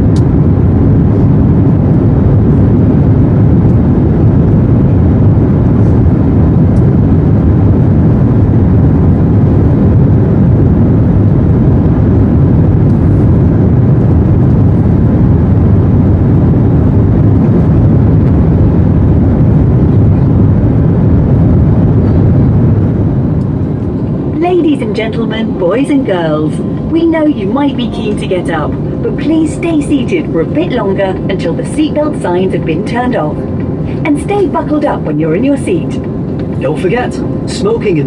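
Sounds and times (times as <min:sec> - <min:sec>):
jet engine and airflow noise: 0:00.0 - 0:38.0.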